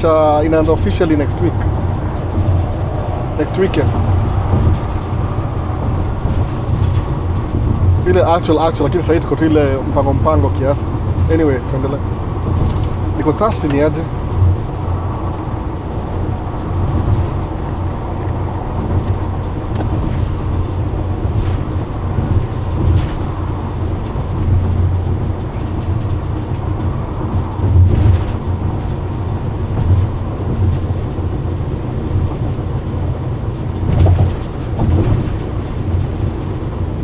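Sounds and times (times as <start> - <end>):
car tyres and engine rumble: 0.0 - 37.0
road knocks: 0.0 - 37.0.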